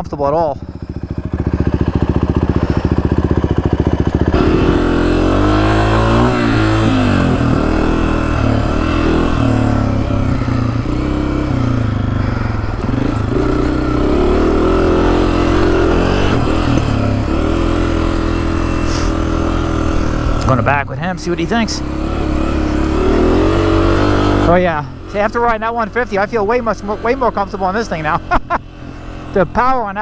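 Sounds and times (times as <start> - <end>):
dirt bike engine revving: 0.6 - 30.0.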